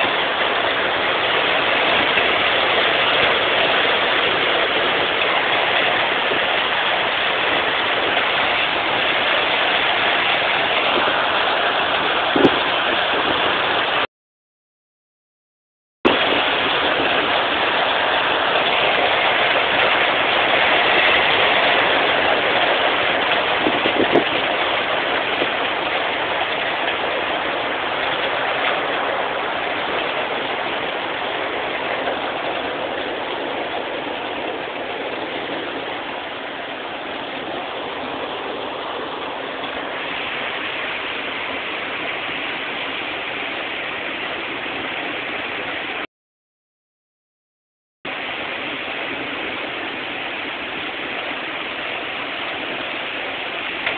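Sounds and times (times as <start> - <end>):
heavy hail pelting down: 0.0 - 14.0, 16.1 - 46.0.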